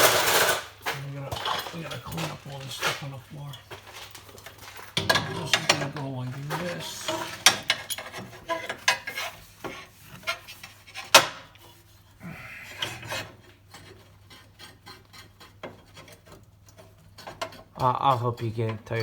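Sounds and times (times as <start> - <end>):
sheet metal clinks and scrapes: 0.0 - 11.8, 12.8 - 19.0.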